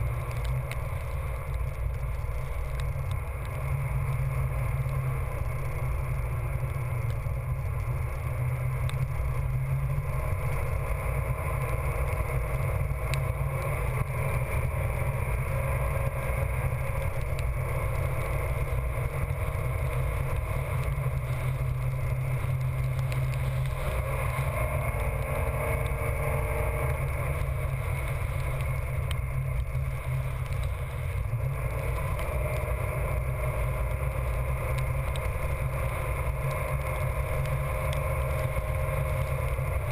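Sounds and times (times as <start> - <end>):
low hum: 0.0 - 39.9
vehicle driving on wet sand: 0.0 - 39.9.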